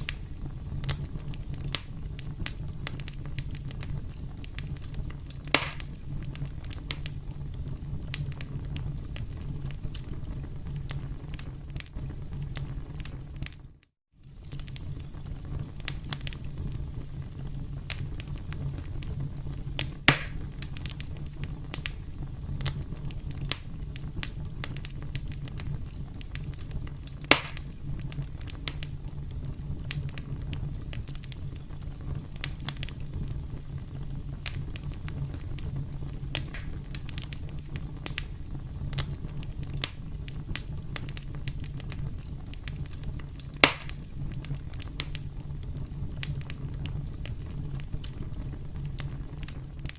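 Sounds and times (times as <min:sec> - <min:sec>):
sharp pops of burning wood: 0:00.0 - 0:13.6, 0:17.4 - 0:49.9
campfire crackling: 0:00.0 - 0:49.9.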